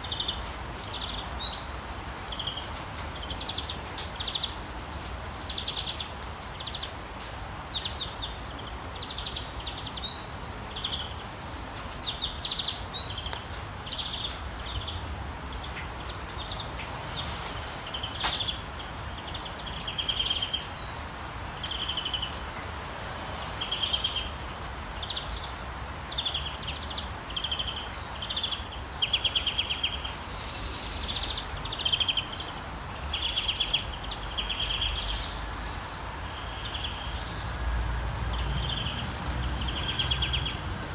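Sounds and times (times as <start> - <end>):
rain hiss: 0.0 - 40.9
songbirds chirping: 0.0 - 40.9.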